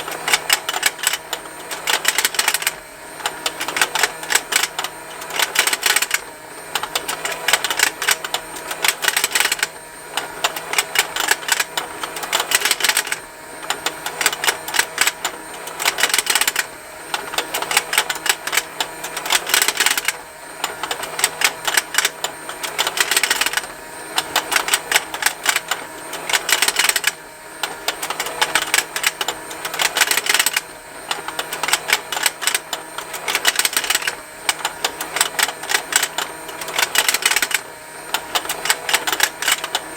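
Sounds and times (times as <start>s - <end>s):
toy motor gears ticking: 0.0s - 39.9s.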